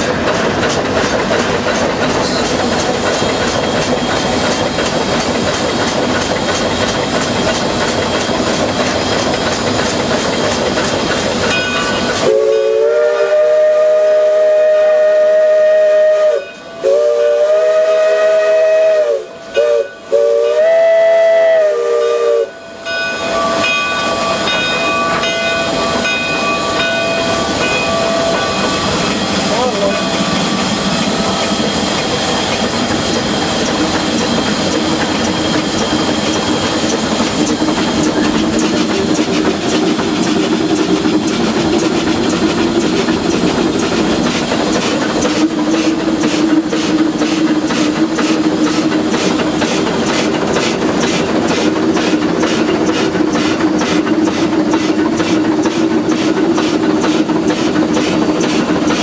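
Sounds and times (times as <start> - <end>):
steam locomotive rumble and hiss: 0.0 - 59.0.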